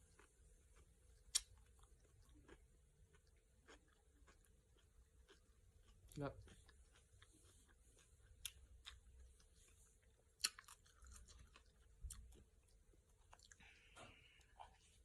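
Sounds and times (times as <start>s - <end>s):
chewing crunchy salad: 0.0s - 15.0s.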